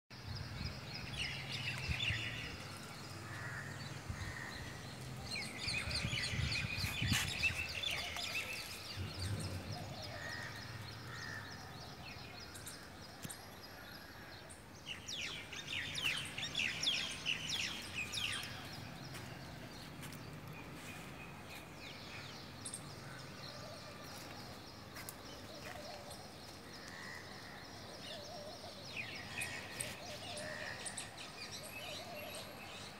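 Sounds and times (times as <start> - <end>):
outdoor background noise: 0.1 - 32.9
birds chirping: 0.3 - 32.9.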